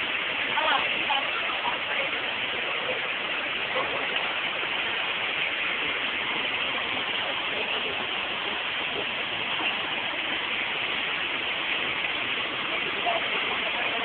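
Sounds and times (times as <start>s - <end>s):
waterfall pouring into pool: 0.0s - 14.0s.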